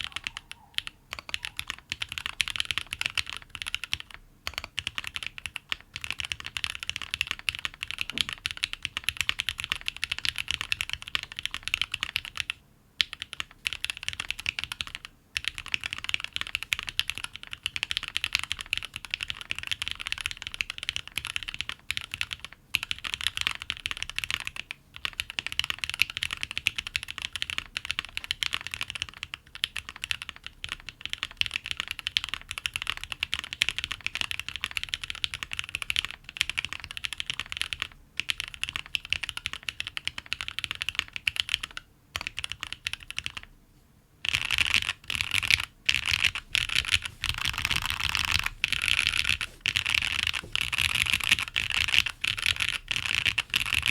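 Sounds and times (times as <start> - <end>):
mechanical keyboard typing: 0.0 - 43.5, 44.2 - 53.9.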